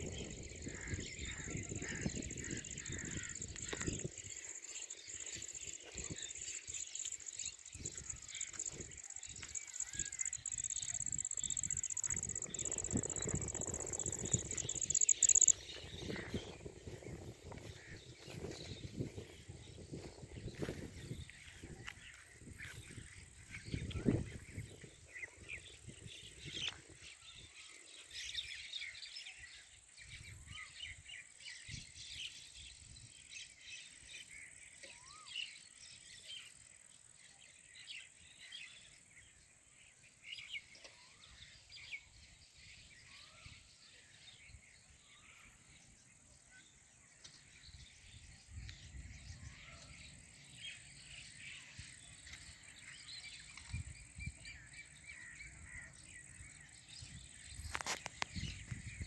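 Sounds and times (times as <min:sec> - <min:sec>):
small birds chirping chorus: 0:00.0 - 0:59.0.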